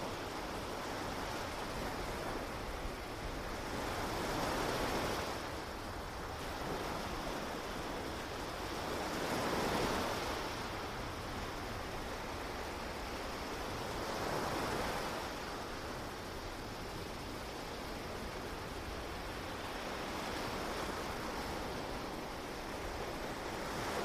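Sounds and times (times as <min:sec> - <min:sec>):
ocean waves washing onto beach: 0:00.0 - 0:24.0.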